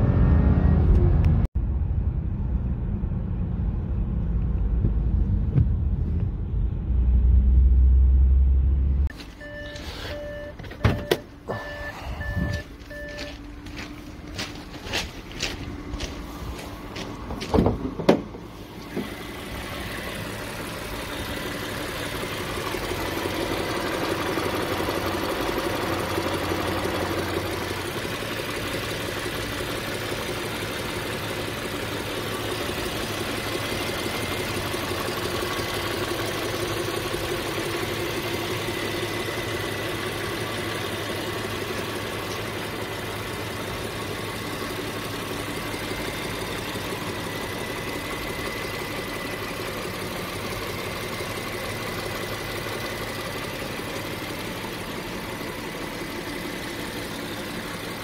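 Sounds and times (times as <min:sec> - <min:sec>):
car engine idling: 0:01.0 - 0:58.0.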